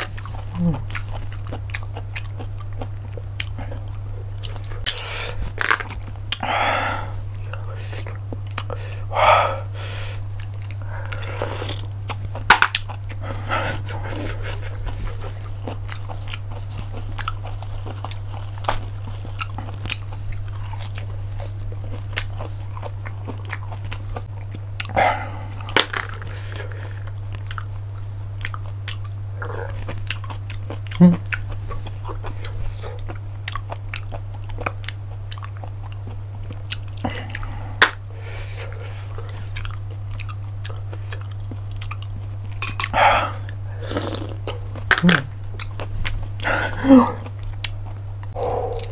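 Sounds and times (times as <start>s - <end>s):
chewing and mouth sounds: 0.0s - 6.5s, 7.3s - 9.0s, 10.2s - 48.9s
steady low hum: 0.0s - 48.9s.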